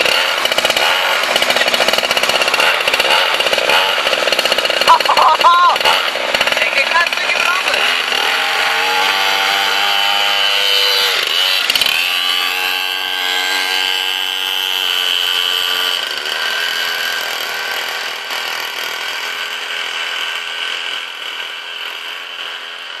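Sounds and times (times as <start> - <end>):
minibike engine revving: 0.0 - 23.0.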